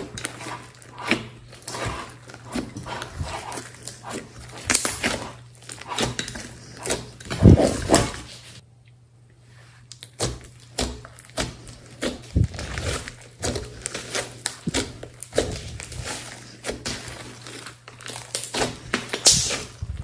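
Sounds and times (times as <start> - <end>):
hands squishing slime: 0.0 - 8.6, 9.9 - 20.0.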